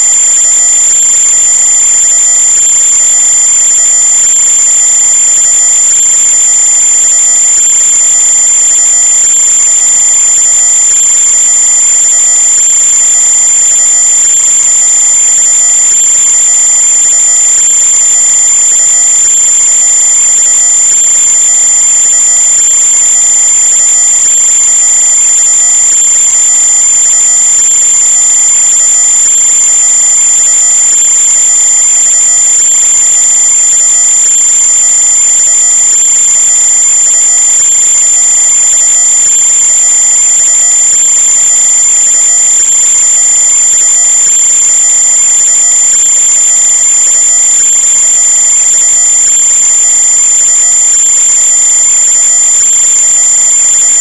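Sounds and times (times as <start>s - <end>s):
high-pitched electronic whine: 0.0s - 54.0s.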